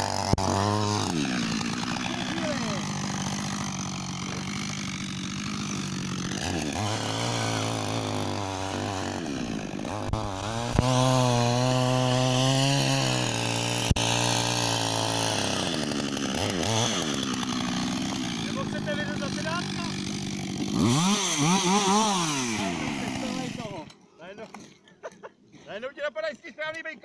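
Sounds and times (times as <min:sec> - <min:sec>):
chainsaw cutting ice: 0:00.0 - 0:24.0.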